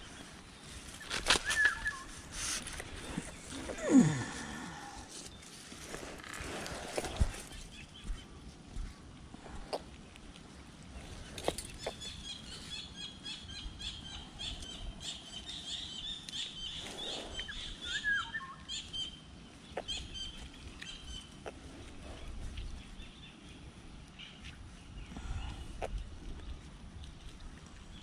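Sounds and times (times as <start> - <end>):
birds chirping: 0.0 - 10.1, 10.9 - 26.6.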